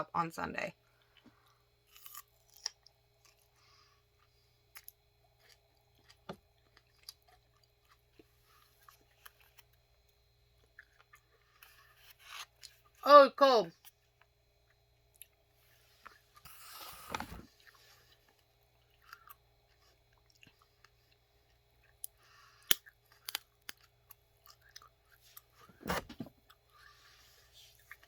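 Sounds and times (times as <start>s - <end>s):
person chewing chicken wing: 1.0s - 9.8s, 10.4s - 13.0s, 13.9s - 25.7s.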